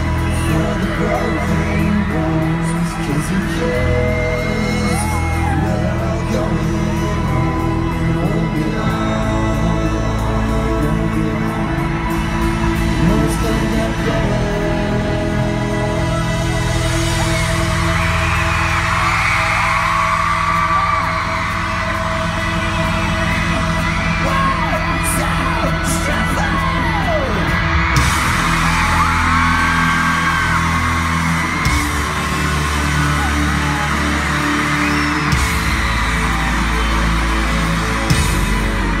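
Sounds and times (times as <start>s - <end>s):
crowd screaming and cheering: 0.0s - 39.0s
intro music over loudspeakers: 0.0s - 39.0s.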